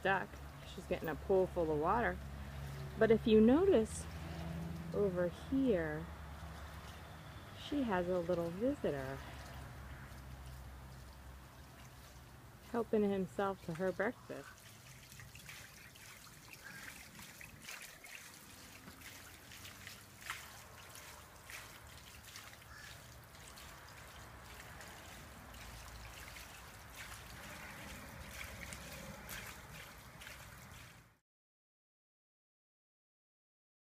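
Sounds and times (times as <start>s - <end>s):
light water splashes: 0.0s - 31.2s
water trickling into plastic pool: 0.0s - 31.2s.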